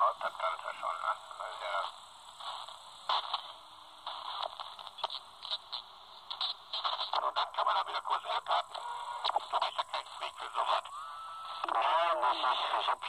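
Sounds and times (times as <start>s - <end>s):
crackling radio bursts: 0.0s - 13.0s
radio speaker hiss: 0.0s - 13.0s.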